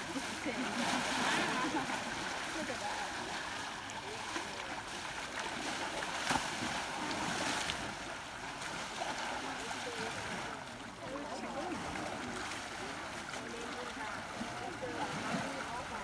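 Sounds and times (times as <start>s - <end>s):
shallow river flowing: 0.0s - 16.0s.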